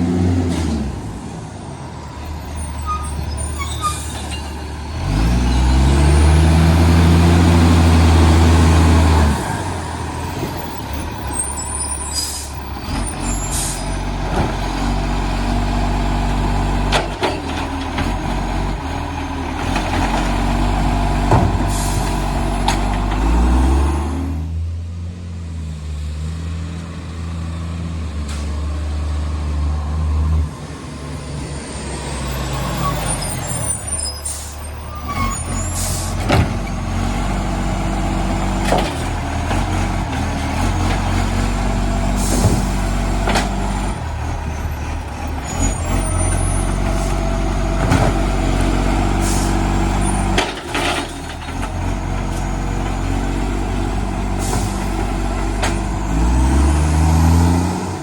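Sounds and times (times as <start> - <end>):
garbage truck engine revving: 0.0 - 58.0.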